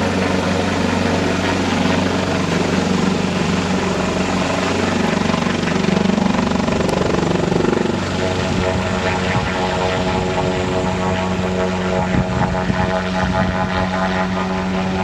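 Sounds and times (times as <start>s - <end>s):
helicopter turbine and rotor: 0.0s - 15.0s.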